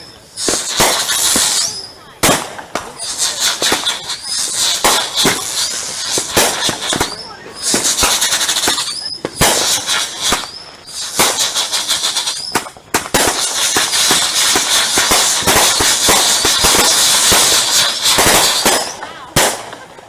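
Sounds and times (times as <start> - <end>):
high whistling squeal: 0.0 - 2.2, 2.9 - 12.7, 13.3 - 19.0
sharp firework bang: 0.0 - 19.8
fireworks crackling barrage: 0.0 - 20.0.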